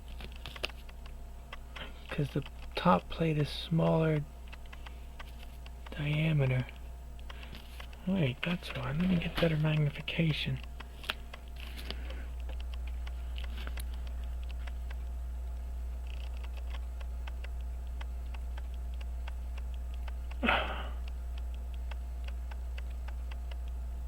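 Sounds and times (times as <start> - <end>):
low hum: 0.0 - 24.0
clock ticking rapidly: 0.6 - 13.2, 16.2 - 24.0.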